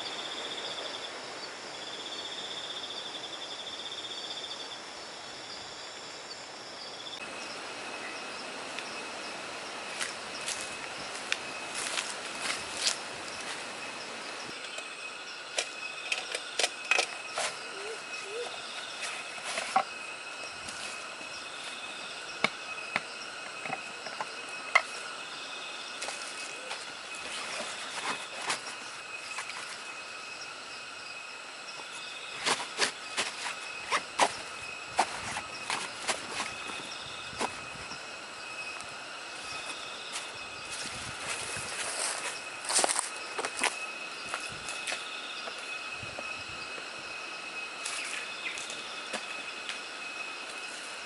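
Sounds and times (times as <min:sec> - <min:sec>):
forest insects chorus: 0:00.0 - 0:51.0.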